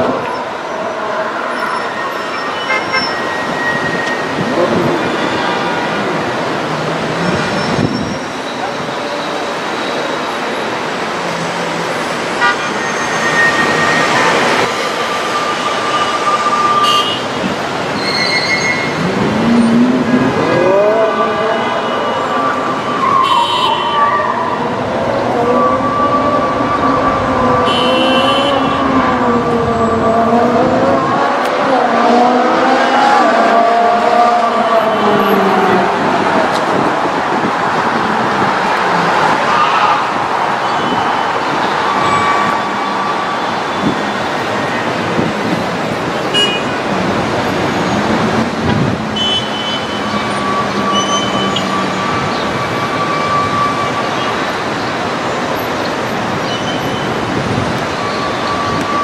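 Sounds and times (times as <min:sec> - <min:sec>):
busy road traffic: 0:00.0 - 0:59.0.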